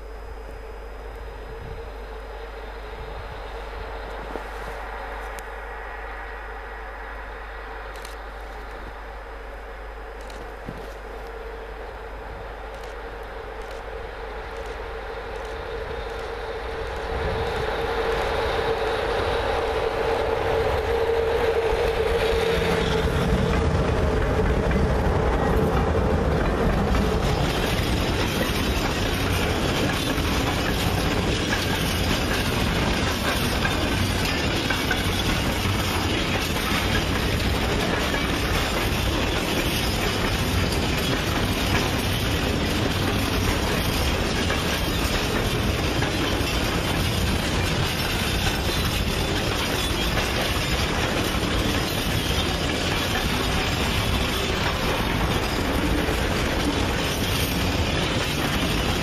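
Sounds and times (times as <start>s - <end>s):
electric locomotive whine: 0.0s - 59.0s
train wheels rumbling and clacking: 0.0s - 59.0s.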